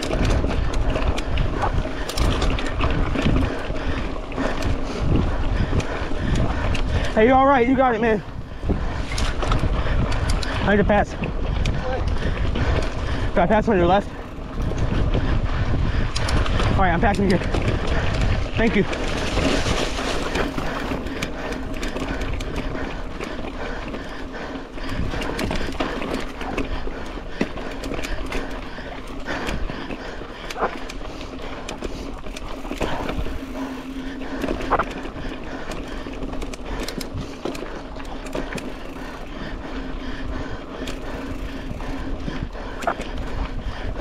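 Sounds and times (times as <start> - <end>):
bike rattling over rough ground: 0.0 - 44.0
bike tyre and wind noise: 0.0 - 44.0.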